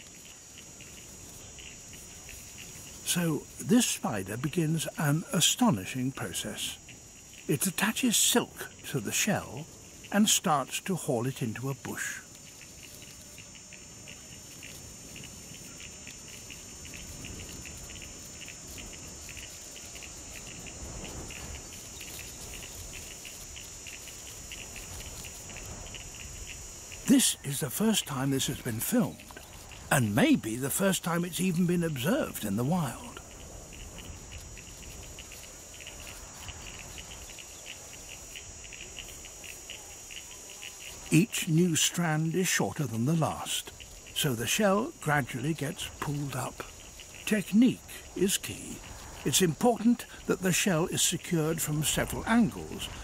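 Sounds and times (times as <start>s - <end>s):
faint high hiss: 0.0s - 53.0s
insects chirping: 0.0s - 53.0s.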